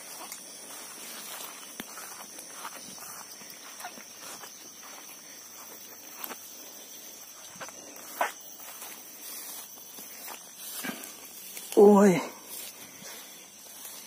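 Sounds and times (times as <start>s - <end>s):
footsteps through grass: 0.0s - 14.0s
high insect trill: 0.0s - 14.0s.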